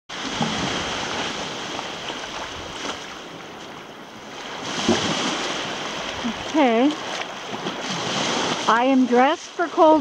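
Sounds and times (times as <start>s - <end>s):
small waves washing in: 0.1s - 10.0s
water sloshing in shallows: 0.1s - 10.0s.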